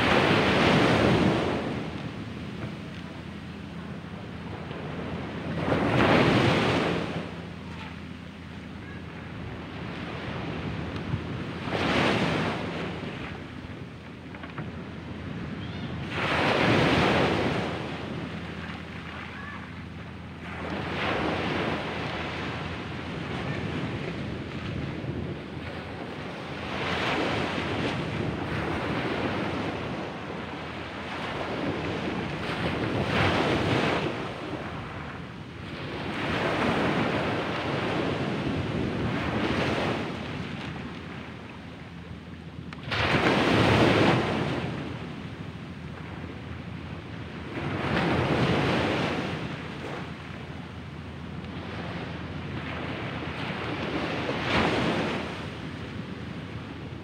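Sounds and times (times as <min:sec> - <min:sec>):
small waves washing up beach: 0:00.0 - 0:13.7, 0:14.4 - 0:57.0.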